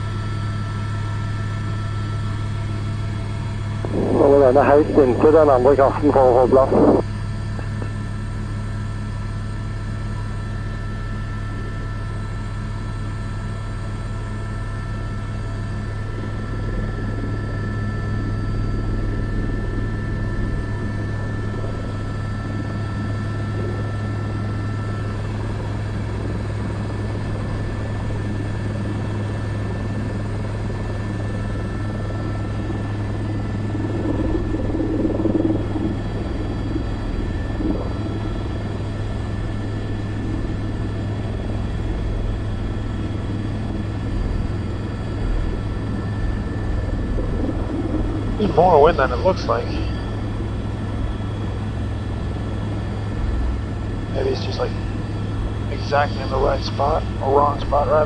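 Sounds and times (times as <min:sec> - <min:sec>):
helicopter rotor drone: 0:00.0 - 0:58.0
turbine whine: 0:00.0 - 0:58.0.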